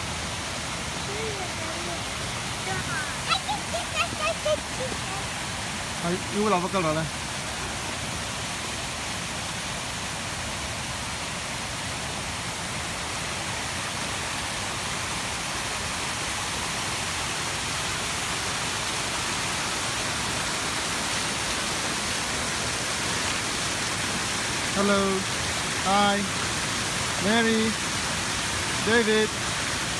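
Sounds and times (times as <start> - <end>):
fountain water splashing: 0.0 - 29.9.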